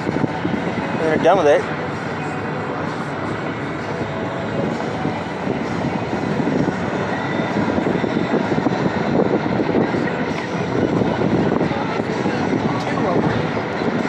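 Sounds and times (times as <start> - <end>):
vehicle engine and road rumbling: 0.0 - 14.0.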